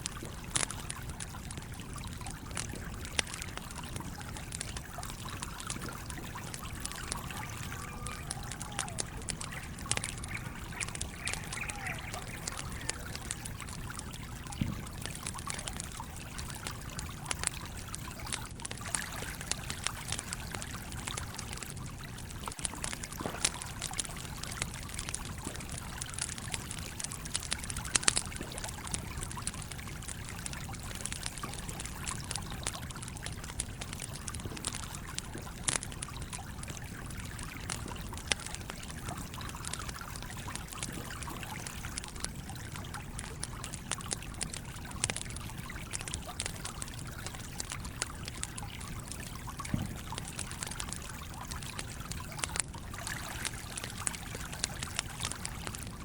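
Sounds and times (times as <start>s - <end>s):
campfire crackling and popping: 0.0s - 56.0s
stream trickling: 0.0s - 56.0s.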